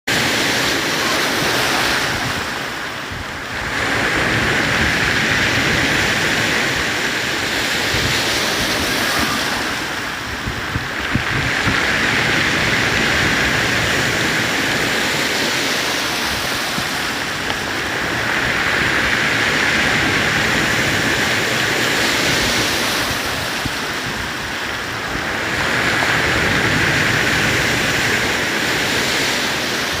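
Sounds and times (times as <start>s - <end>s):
surf breaking on a beach: 0.1s - 30.0s.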